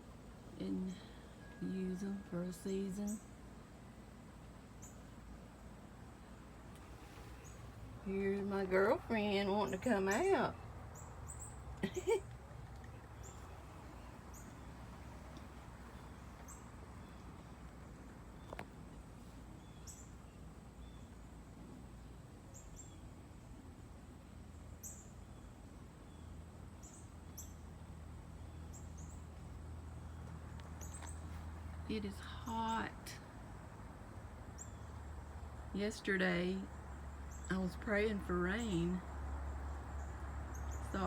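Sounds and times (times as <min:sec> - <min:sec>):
steady low hum: 0:00.0 - 0:41.0
small birds chirping: 0:04.7 - 0:05.4, 0:06.1 - 0:33.4, 0:34.5 - 0:41.0.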